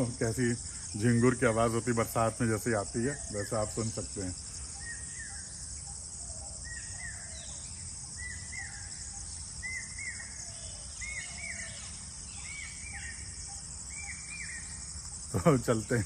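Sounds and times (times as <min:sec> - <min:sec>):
crickets shrilling: 0:00.0 - 0:16.0.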